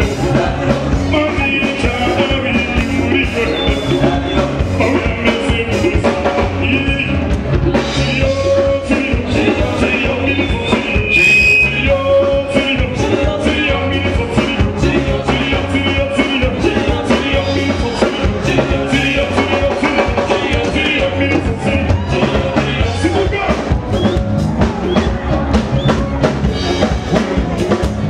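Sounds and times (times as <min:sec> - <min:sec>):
upbeat music with drums and bass: 0:00.0 - 0:28.0.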